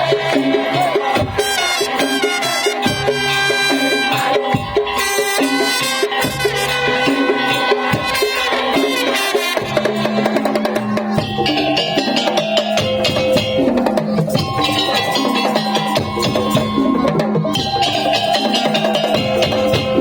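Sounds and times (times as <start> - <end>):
wooden slit drums and drums: 0.0 - 20.0.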